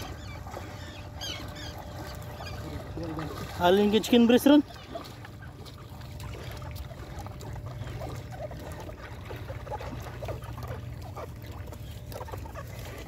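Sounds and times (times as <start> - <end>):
water trickling and lapping: 0.0 - 13.0.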